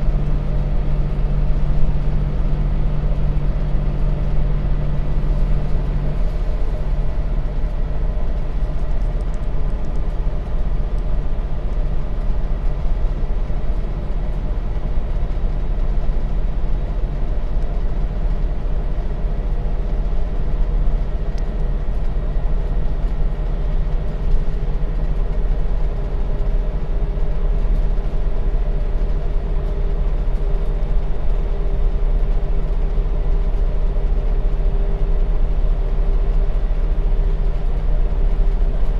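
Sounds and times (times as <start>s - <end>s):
bus engine drone: 0.0s - 38.9s
road rumble: 0.0s - 38.9s.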